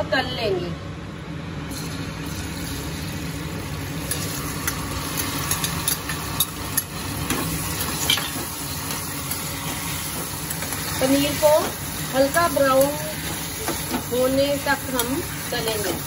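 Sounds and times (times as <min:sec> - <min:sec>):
food sizzling in hot fat: 0:01.7 - 0:16.0.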